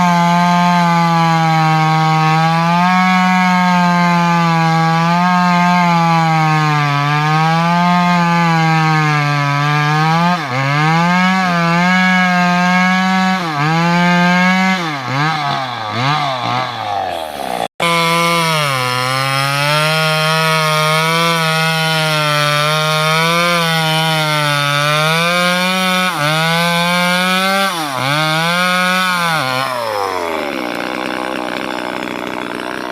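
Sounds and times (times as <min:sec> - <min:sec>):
chainsaw cutting wood: 0:00.0 - 0:32.9.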